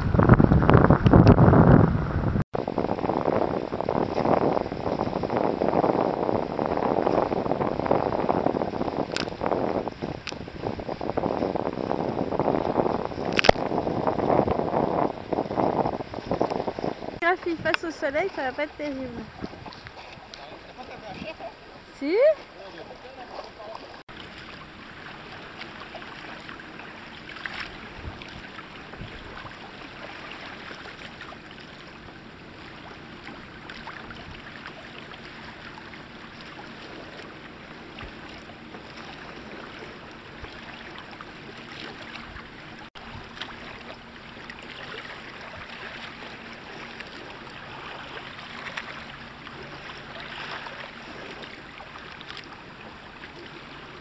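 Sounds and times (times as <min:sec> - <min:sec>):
wind noise: 0:00.0 - 0:22.4, 0:23.3 - 0:52.1
water splashing along hull: 0:00.0 - 0:54.0.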